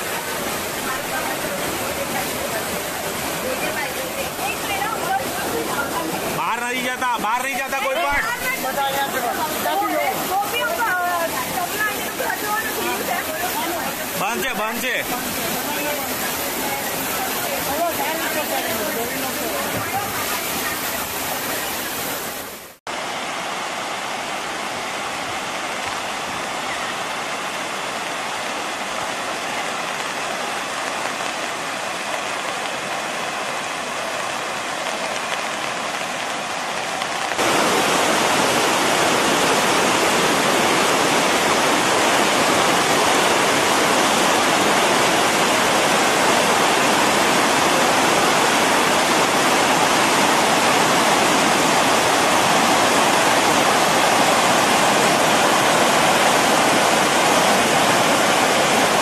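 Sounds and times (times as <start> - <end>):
water rushing over spillway: 0.0 - 59.0.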